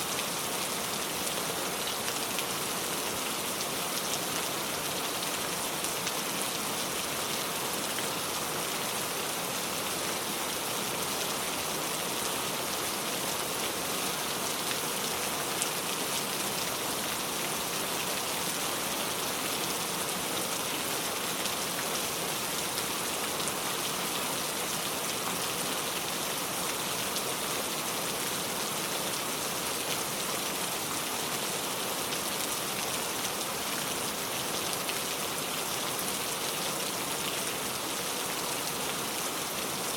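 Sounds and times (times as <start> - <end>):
rain falling on a car: 0.1 - 39.9.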